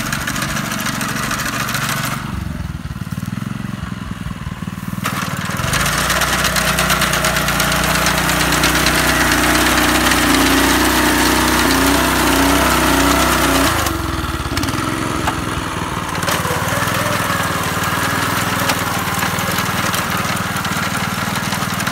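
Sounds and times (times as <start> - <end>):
small engine running: 0.0 - 21.9.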